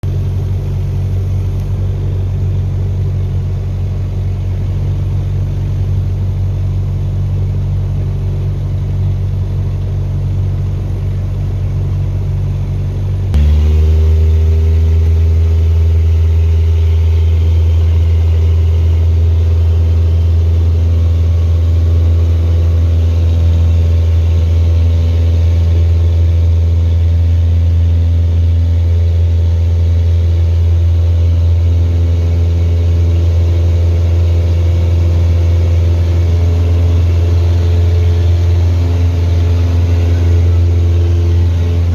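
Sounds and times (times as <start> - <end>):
light aircraft piston engine: 0.0 - 41.9.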